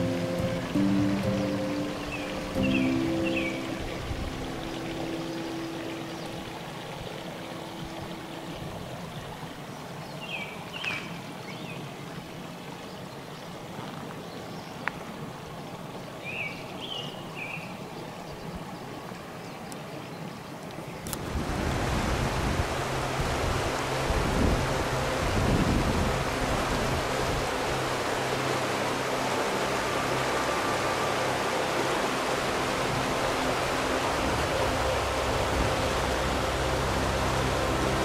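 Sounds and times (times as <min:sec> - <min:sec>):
fast-flowing water rushing: 0:00.0 - 0:38.0.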